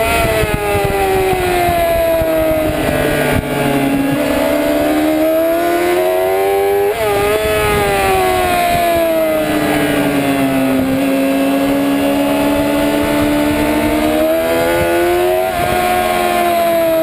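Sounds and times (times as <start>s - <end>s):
motorcycle engine revving: 0.0s - 17.0s
wind on microphone: 0.0s - 17.0s.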